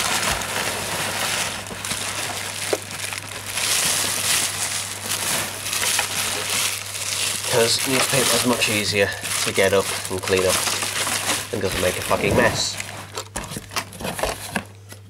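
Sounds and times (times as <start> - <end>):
newspaper rustling and crinkling: 0.0 - 15.0.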